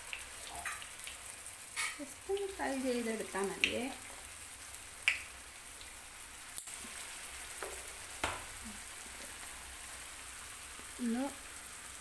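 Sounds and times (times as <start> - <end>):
dough balls frying in oil: 0.0 - 12.0.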